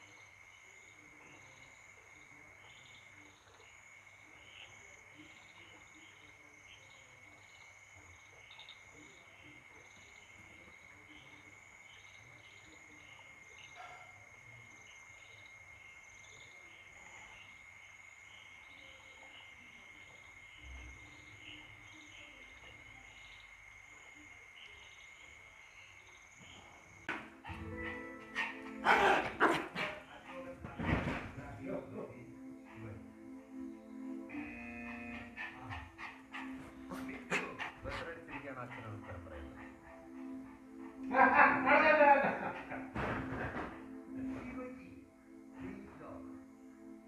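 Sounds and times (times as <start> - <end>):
insect chirps: 0.0 - 29.0, 31.5 - 42.9
cricket trill: 0.0 - 47.0.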